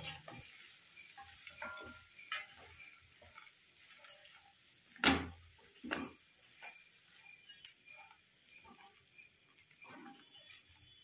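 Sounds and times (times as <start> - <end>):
spatula scraping steel pan: 0.0 - 4.7, 5.7 - 11.0.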